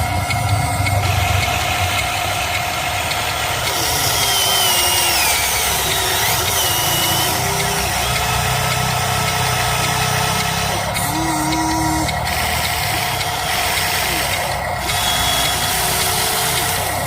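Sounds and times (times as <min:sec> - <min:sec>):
model vehicle motors humming: 0:00.0 - 0:17.0
motor whines: 0:00.0 - 0:17.0.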